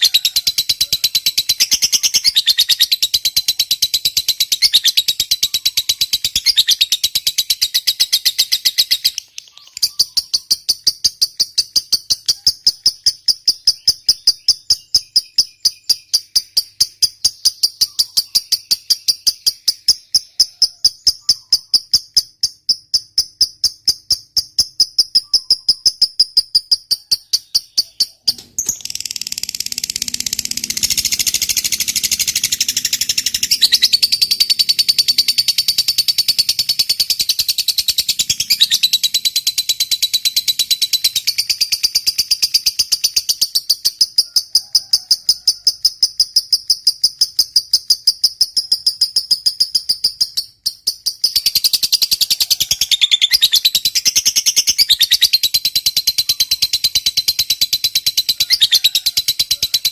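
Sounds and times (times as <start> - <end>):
lovebird chattering trill: 0.0 - 59.9.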